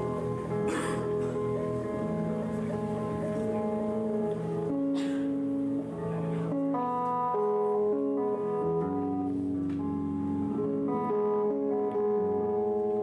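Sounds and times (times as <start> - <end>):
electric guitar with clean tone: 0.0 - 13.0.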